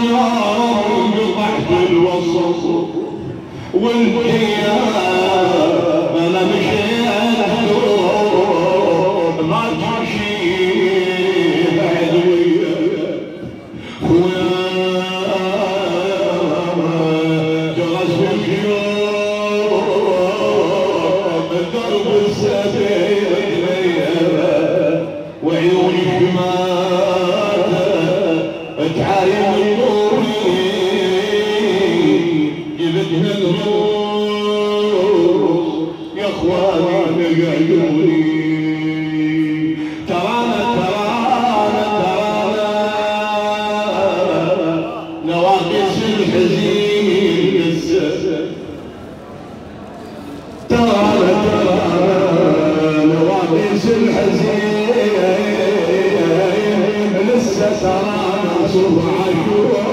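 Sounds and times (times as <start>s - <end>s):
old man chanting: 0.0s - 48.6s, 50.7s - 59.9s.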